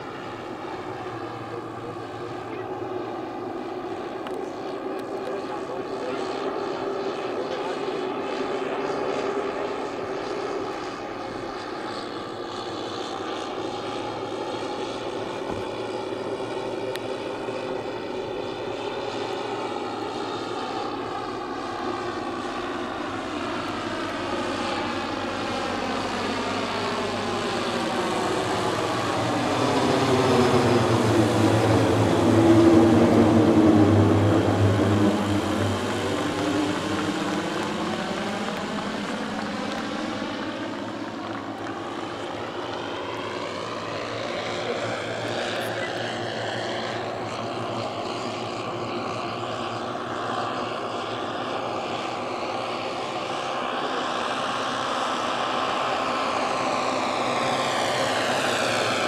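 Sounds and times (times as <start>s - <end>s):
model aircraft engines droning: 0.0s - 59.0s.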